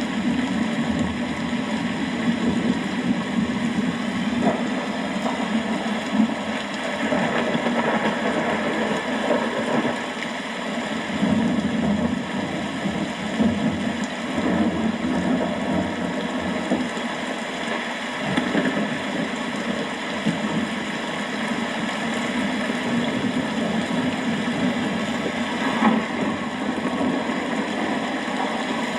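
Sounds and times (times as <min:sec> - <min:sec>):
low rumble of thunder: 0:00.0 - 0:28.9
steady rain falling: 0:00.0 - 0:28.9.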